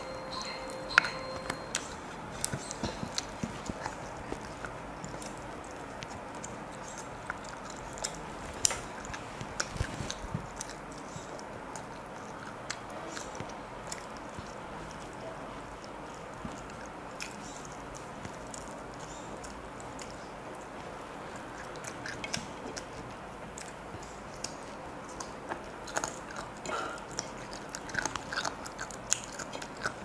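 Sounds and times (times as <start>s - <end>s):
person chewing with lip smacks: 1.7s - 30.0s.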